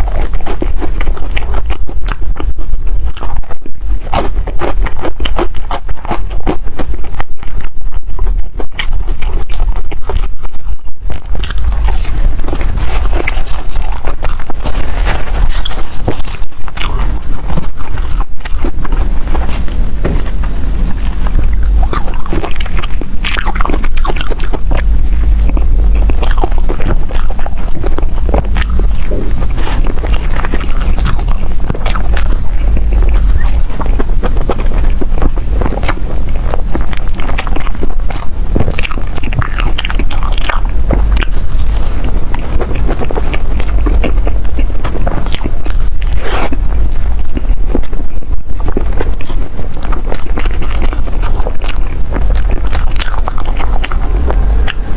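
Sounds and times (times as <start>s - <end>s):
close-miked biting and chewing: 0.0s - 54.9s
steady low rumble: 0.0s - 54.9s.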